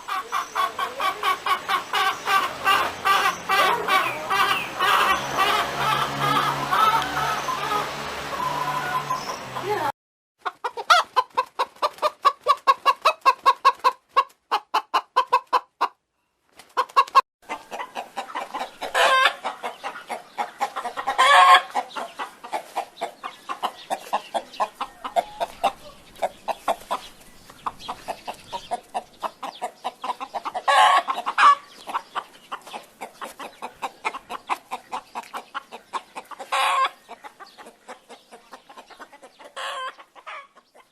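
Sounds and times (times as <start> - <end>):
chicken clucking: 0.0 - 16.0, 16.6 - 40.9.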